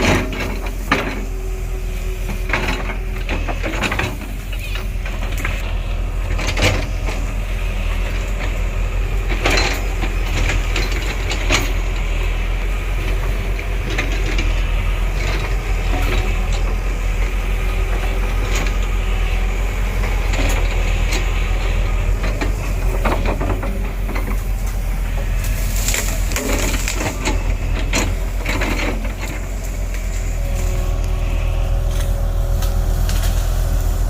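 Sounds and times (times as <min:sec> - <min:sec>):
metal clanks and knocks: 0:00.0 - 0:01.5, 0:02.2 - 0:05.7, 0:08.0 - 0:12.2, 0:13.1 - 0:33.4
diesel engine rumbling: 0:00.0 - 0:34.0.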